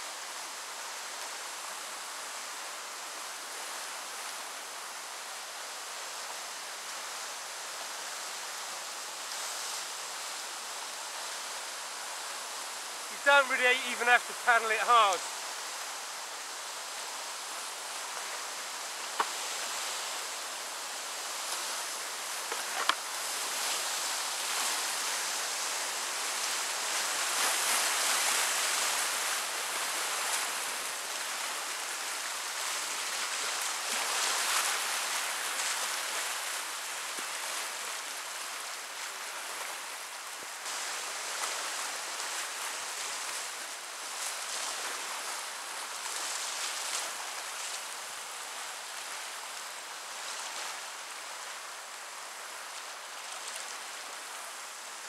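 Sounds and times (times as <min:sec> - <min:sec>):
whitewater rushing: 0:00.0 - 0:55.0.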